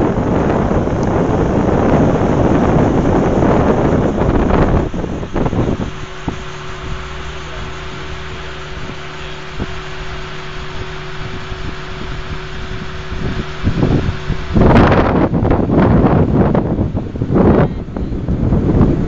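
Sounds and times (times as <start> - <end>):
low mechanical hum: 0.0 - 19.0
wind buffeting microphone: 0.0 - 19.0.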